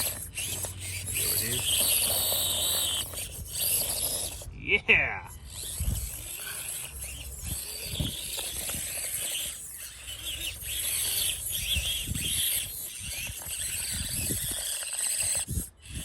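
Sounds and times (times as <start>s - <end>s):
rc car motor whining: 0.0s - 4.6s, 5.2s - 16.0s.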